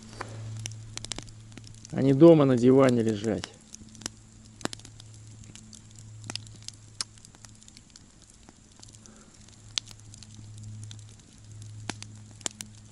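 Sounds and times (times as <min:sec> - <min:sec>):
campfire crackling and popping: 0:00.0 - 0:12.9
low steady hum: 0:00.0 - 0:12.9.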